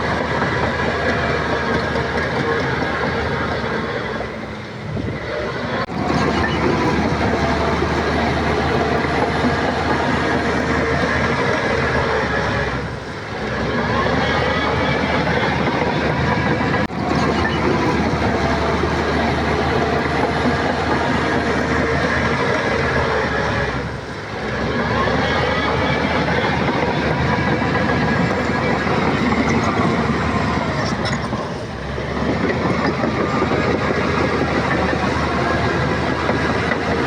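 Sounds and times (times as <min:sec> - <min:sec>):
diesel engine under load: 0:00.0 - 0:37.0
steel tracks clanking: 0:00.0 - 0:37.0.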